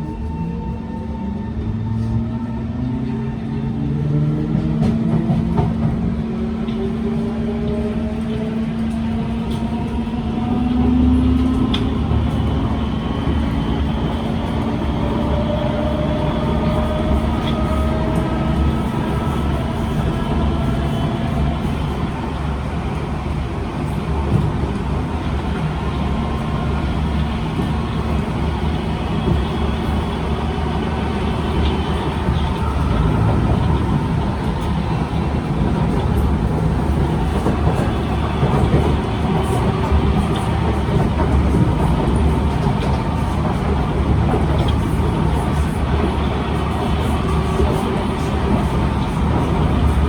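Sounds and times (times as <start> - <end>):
train wheels rumbling on track: 0.0 - 50.0.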